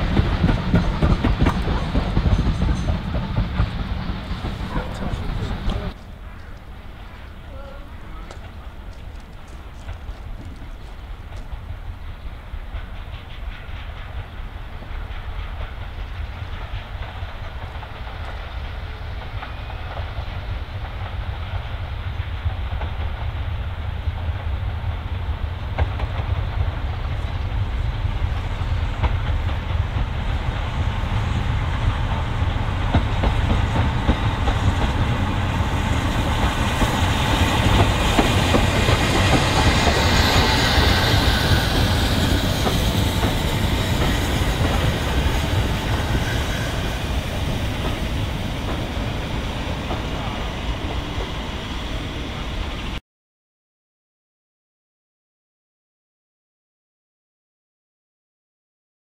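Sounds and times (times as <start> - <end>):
train wheels clicking on rail joints: 0.0 - 24.8, 25.6 - 52.8
steam locomotive passing: 0.0 - 53.0.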